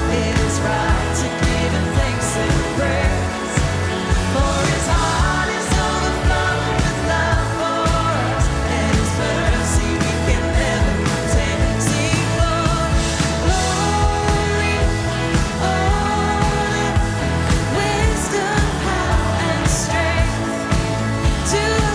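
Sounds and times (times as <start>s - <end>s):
bass and drums beat: 0.0s - 21.9s
live band playing worship song: 0.0s - 21.9s
woman singing: 0.0s - 21.9s.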